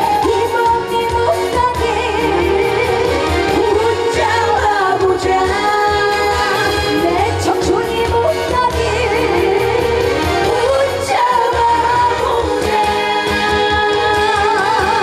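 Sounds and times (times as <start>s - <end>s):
band accompaniment: 0.0s - 15.0s
woman singing with vibrato: 0.0s - 15.0s.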